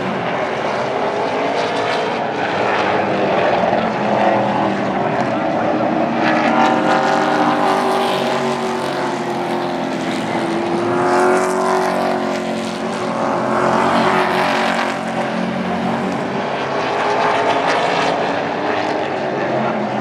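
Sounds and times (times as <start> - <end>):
race truck engines passing: 0.0 - 20.0.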